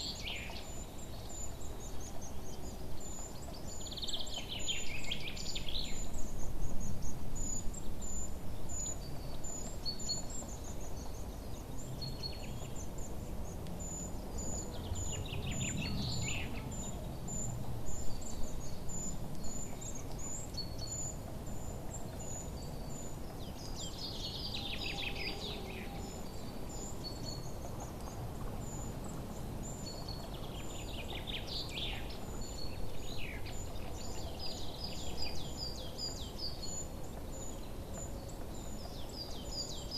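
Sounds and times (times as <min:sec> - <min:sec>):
songbirds chirping: 0:00.0 - 0:39.9
trilled bird song: 0:00.0 - 0:39.9.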